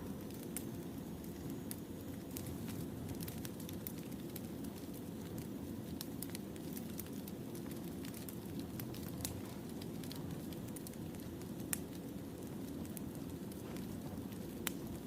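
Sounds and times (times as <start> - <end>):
campfire crackling and snapping: 0.0 - 15.0.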